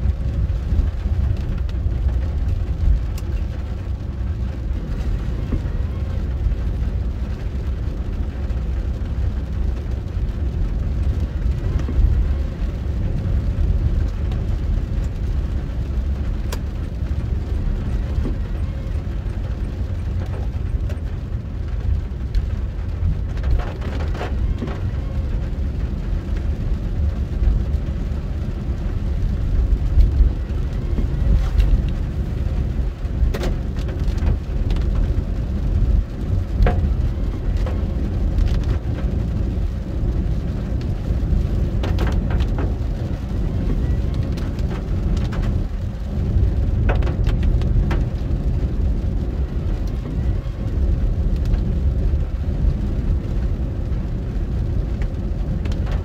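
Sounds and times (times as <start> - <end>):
car engine and tyres rumbling: 0.0 - 56.0
rain on car: 0.0 - 56.0.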